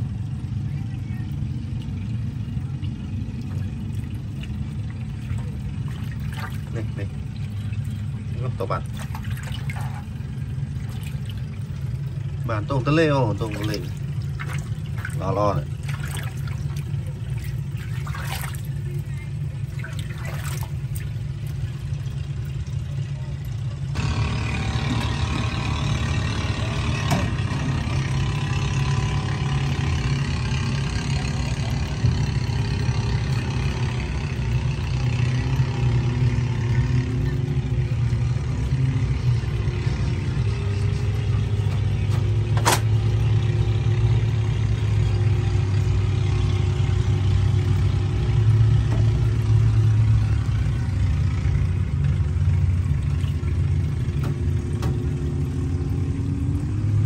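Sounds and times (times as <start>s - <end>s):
motor humming: 0.0s - 57.0s.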